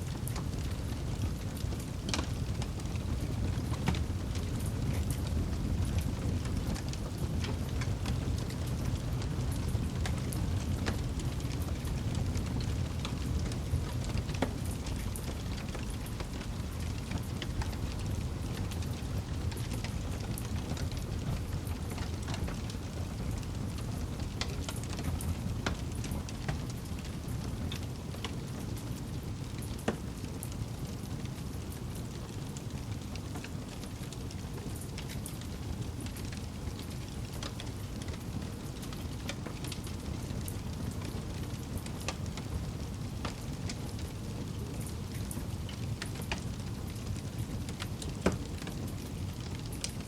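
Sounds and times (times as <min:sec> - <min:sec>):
campfire crackling and popping: 0:00.0 - 0:50.0
low fire rumble: 0:00.0 - 0:50.0.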